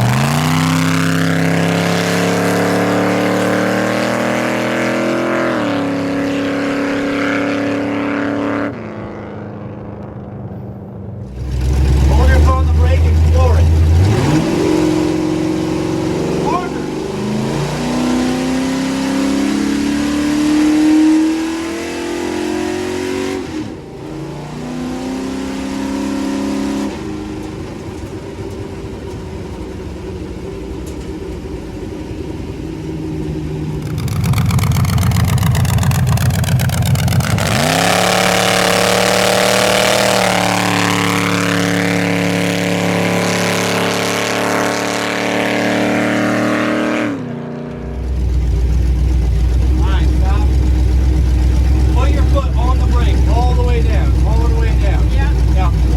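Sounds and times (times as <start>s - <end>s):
truck engine revving: 0.0s - 9.4s, 11.2s - 55.9s.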